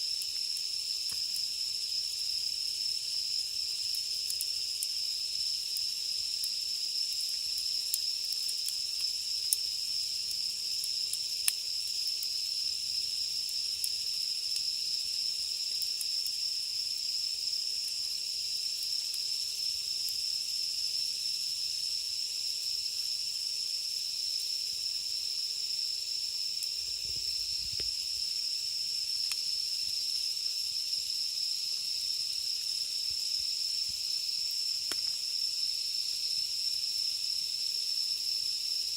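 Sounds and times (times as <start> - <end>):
campfire crackling: 0.0 - 25.0, 26.0 - 30.4, 31.4 - 36.2
cicadas chorus: 0.0 - 38.9.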